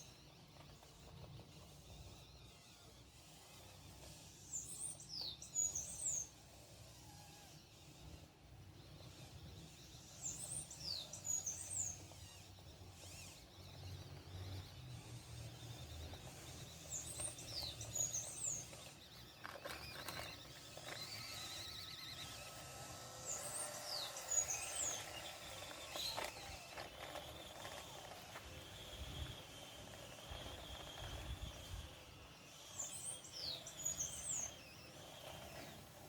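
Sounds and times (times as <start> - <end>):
faint outdoor background noise: 0.0 - 36.0
songbird chirping: 0.0 - 36.0.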